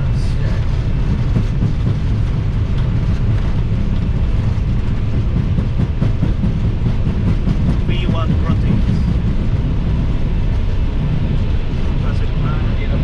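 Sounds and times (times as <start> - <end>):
aircraft cockpit rumble: 0.0 - 13.0.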